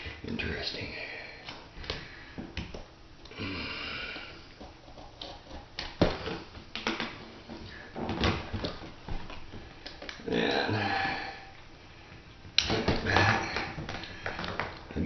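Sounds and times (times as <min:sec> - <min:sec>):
vinyl flooring clicks and rustles: 0:01.4 - 0:03.4, 0:04.1 - 0:15.0.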